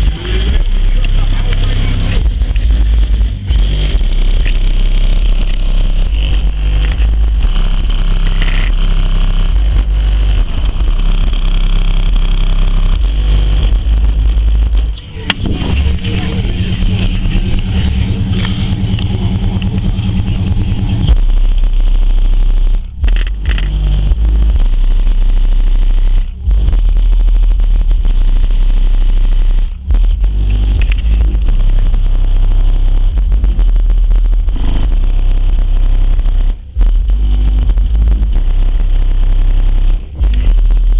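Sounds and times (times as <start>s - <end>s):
loud bass music from subwoofers: 0.0s - 40.9s.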